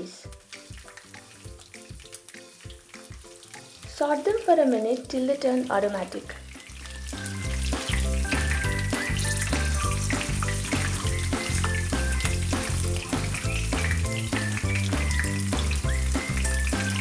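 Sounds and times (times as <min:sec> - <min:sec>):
background music with steady beat: 0:00.0 - 0:17.0
hot oil sizzling and crackling: 0:00.0 - 0:17.0.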